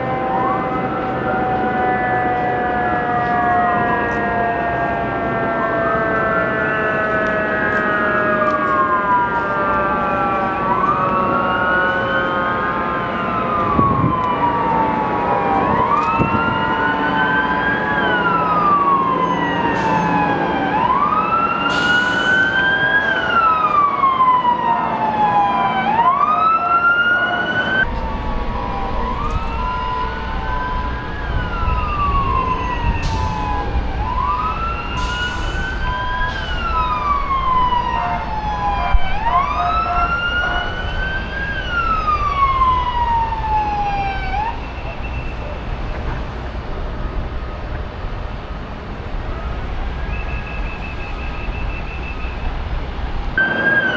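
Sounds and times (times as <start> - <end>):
emergency sirens wailing: 0.0 - 53.9.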